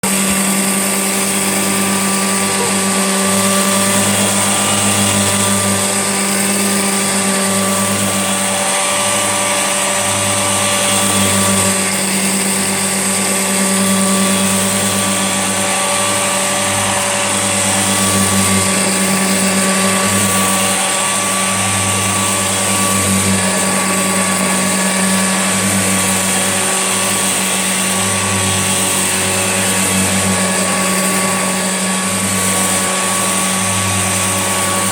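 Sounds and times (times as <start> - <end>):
upright vacuum cleaner running: 0.0 - 34.9.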